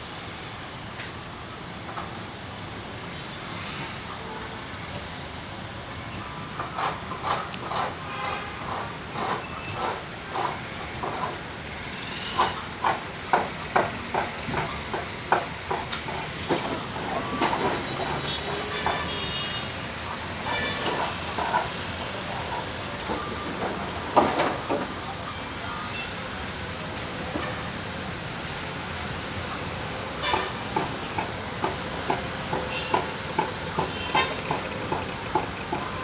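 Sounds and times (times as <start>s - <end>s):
construction site background noise: 0.0s - 36.0s.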